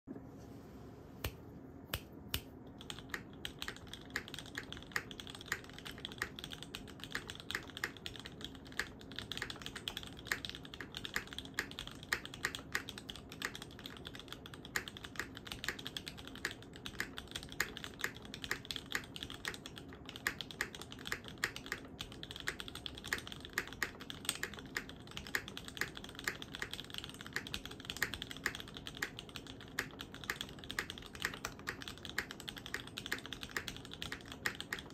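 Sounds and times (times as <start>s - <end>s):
keyboard typing clicks: 2.0s - 34.9s.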